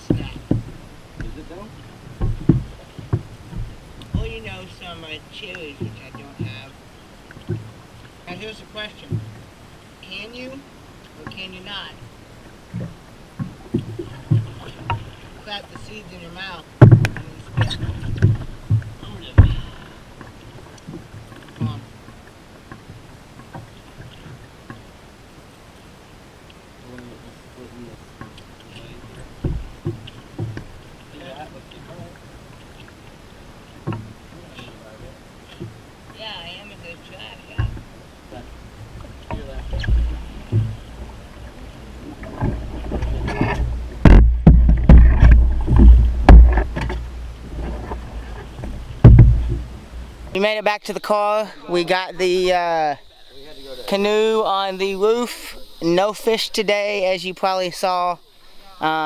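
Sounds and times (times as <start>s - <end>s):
paddle knocking canoe hull: 0.0s - 10.2s, 11.0s - 25.0s, 27.7s - 53.2s.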